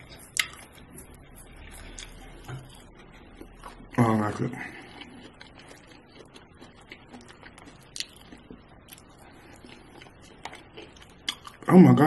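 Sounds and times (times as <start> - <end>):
chewing mouth clicks: 0.0 - 4.0, 4.9 - 11.7.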